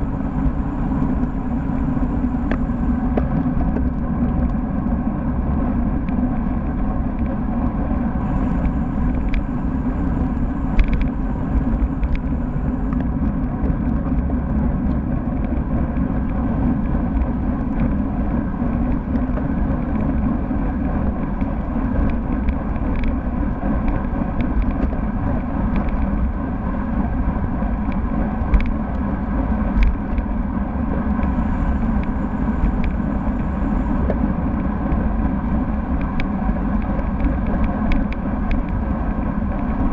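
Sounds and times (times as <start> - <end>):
bike clicks and rattles: 0.0 - 39.9
road rumble: 0.0 - 39.9
wind buffeting microphone: 0.0 - 39.9.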